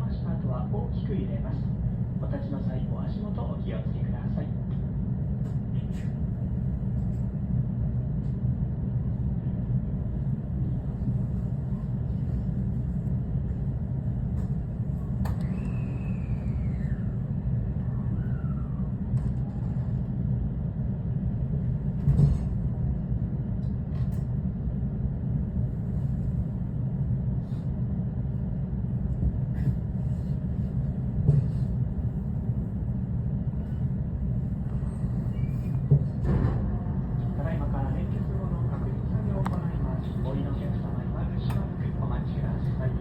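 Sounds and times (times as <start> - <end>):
electric train rumble: 0.0 - 43.0.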